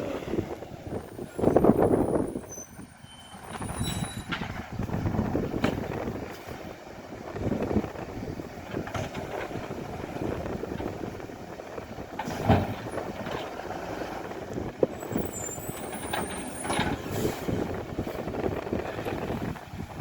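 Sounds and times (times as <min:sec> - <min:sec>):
garbage truck engine running: 0:00.0 - 0:20.0
wind noise on microphone: 0:00.0 - 0:20.0.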